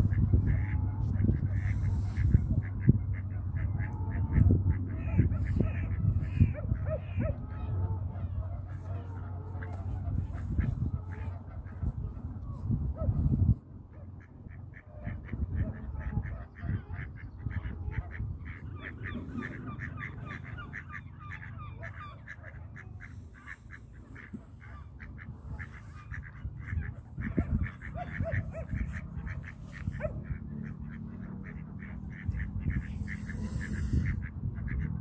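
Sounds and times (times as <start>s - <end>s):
steady low rumble: 0.0s - 35.0s
waterfowl honking and quacking: 0.0s - 35.0s.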